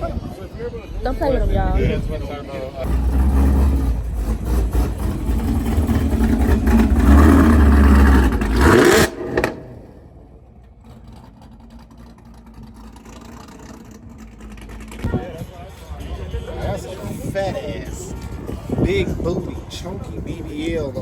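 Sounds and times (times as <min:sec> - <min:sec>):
car engine idling: 0:00.6 - 0:21.0
car engine revving: 0:00.9 - 0:18.8.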